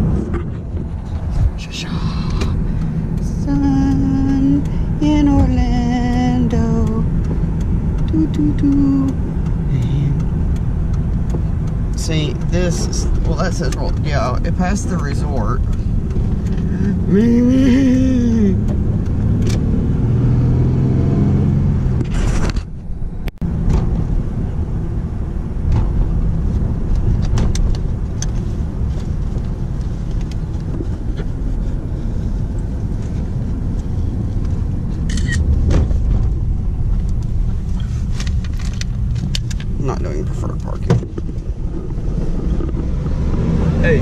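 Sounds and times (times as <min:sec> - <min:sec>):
car driving heard from inside: 0:00.0 - 0:44.0.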